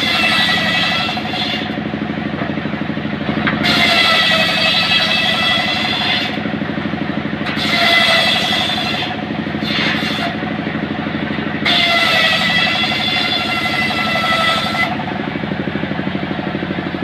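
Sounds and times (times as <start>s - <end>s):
engine running steadily: 0.0s - 17.0s
saw blade whining: 0.0s - 17.0s.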